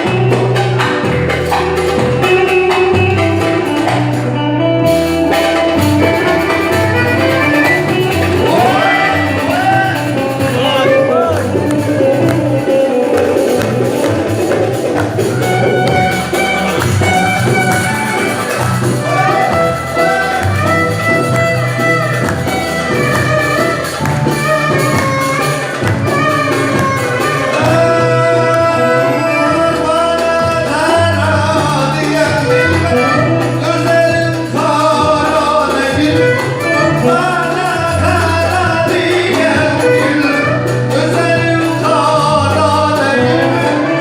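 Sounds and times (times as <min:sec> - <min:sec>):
instrumental folk music: 0:00.0 - 0:44.0.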